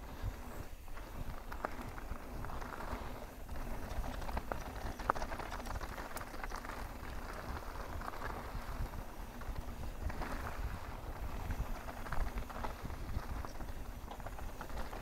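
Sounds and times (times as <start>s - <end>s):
bike tyres crunching over dirt: 0.0s - 15.0s
wind rumble on microphone: 0.0s - 15.0s
bike clicks and knocks: 0.9s - 15.0s.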